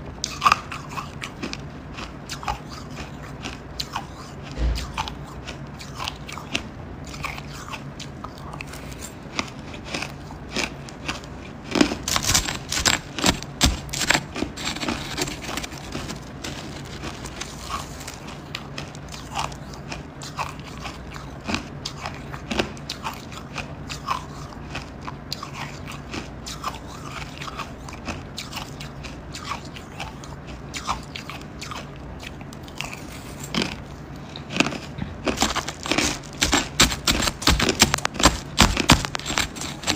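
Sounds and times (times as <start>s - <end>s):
ice crunching while chewed: 0.2s - 39.9s.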